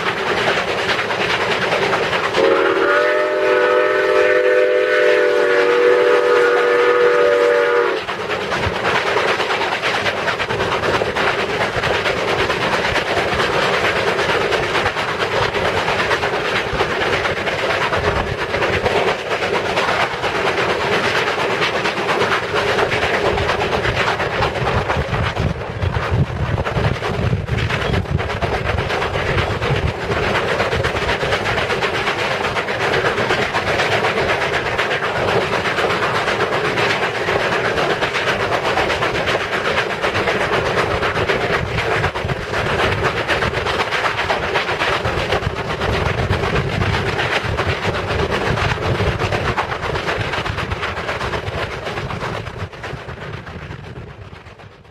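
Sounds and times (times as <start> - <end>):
steam locomotive exhaust chuffing: 0.0 - 54.9
wheels clattering on rails: 0.0 - 54.9.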